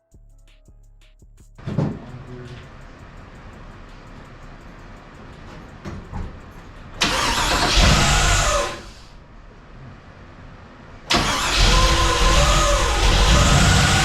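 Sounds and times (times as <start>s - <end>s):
car engine starting and running: 1.6s - 14.0s.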